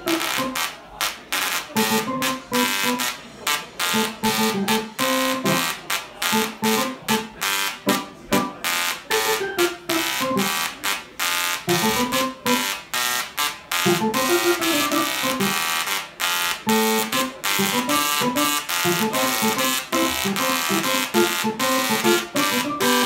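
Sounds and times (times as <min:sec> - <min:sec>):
tesla coil buzzing notes: 0:00.0 - 0:23.0.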